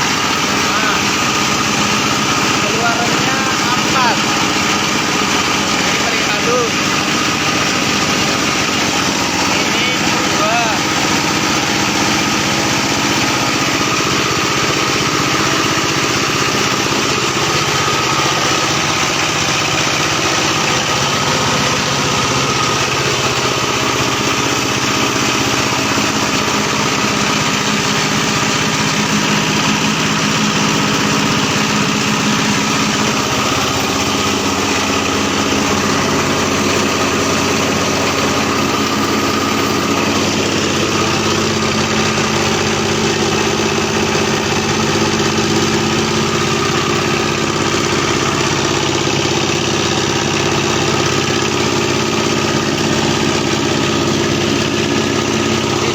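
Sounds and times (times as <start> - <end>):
corn cracking machine drone: 0.0 - 55.9.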